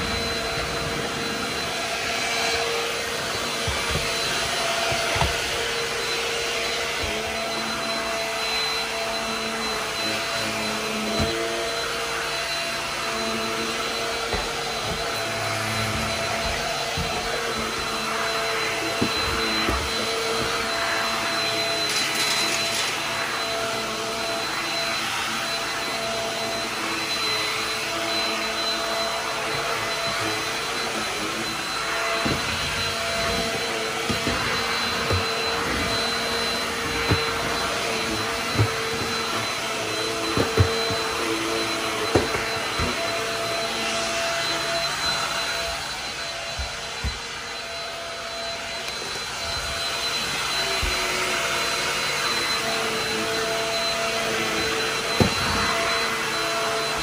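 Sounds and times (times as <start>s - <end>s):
stick vacuum motor humming: 0.0s - 57.0s.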